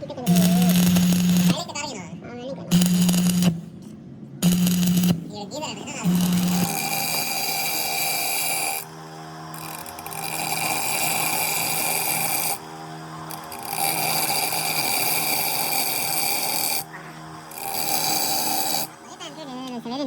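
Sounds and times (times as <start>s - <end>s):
motor hum: 0.1s - 1.8s, 2.7s - 20.0s
power tool working metal: 0.3s - 1.6s, 2.7s - 3.8s, 4.4s - 20.0s.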